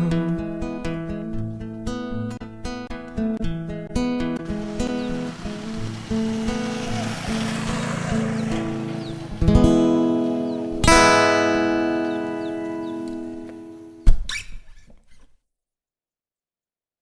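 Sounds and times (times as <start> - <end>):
acoustic guitar strumming: 0.0 - 14.1.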